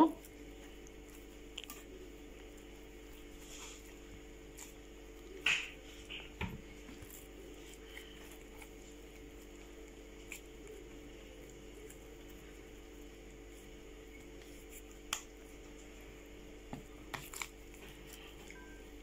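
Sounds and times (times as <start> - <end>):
dough squelching in hands: 0.0 - 19.0.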